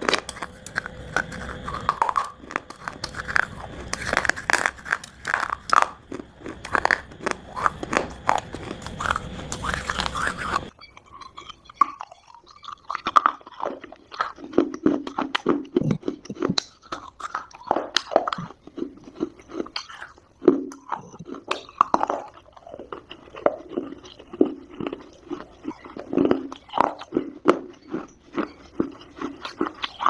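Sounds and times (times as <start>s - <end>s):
crunchy chewing of dry clay: 0.0s - 30.0s.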